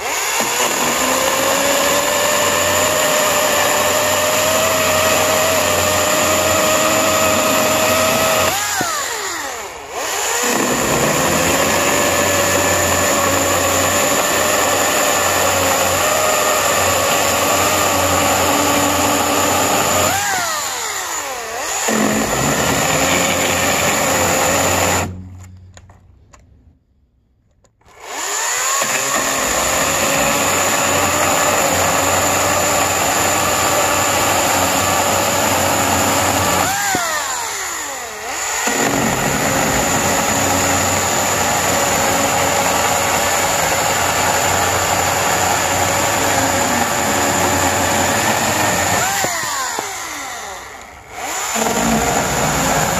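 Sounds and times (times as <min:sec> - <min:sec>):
electric chainsaw cutting wood: 0:00.0 - 0:25.6, 0:27.8 - 0:52.9.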